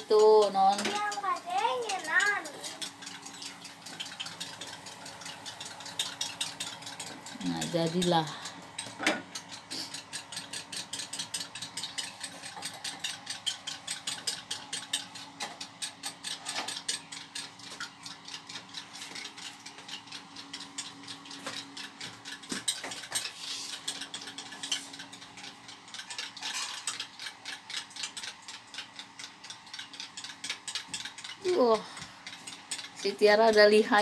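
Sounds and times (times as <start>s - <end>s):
utensil beating egg in bowl: 0.0s - 34.0s.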